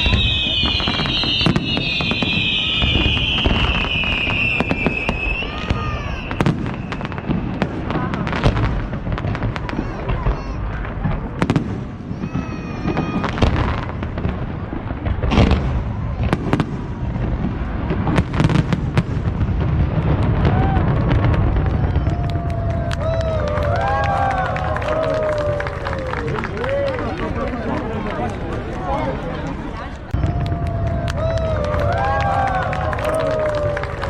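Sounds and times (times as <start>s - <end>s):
onlookers' voices: 0.0s - 18.6s, 19.3s - 34.0s
fireworks bangs and crackling: 0.0s - 34.0s.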